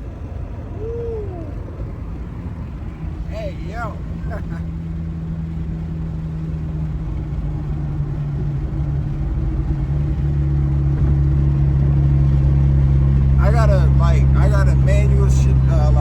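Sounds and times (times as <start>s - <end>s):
car engine pulling: 0.0s - 16.0s.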